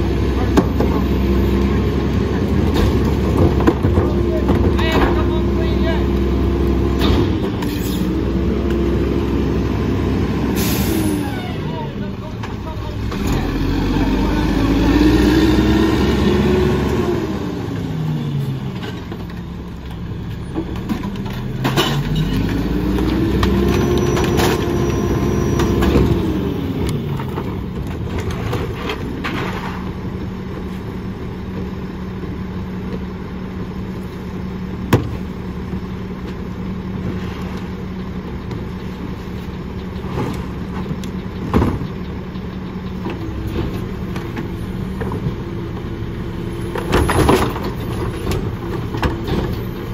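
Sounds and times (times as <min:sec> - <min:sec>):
trash carts knocking and banging: 0:00.0 - 0:10.2, 0:17.7 - 0:34.0, 0:34.6 - 0:49.9
garbage truck diesel engine revving: 0:00.0 - 0:49.9.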